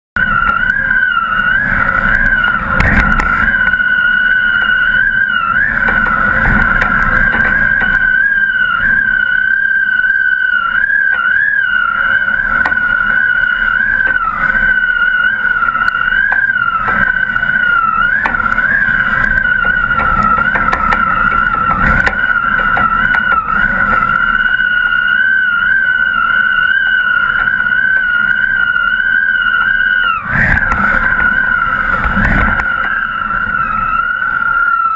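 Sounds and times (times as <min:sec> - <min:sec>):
wind whistling on a taut line: 0:00.0 - 0:34.9
wind noise: 0:00.2 - 0:34.9.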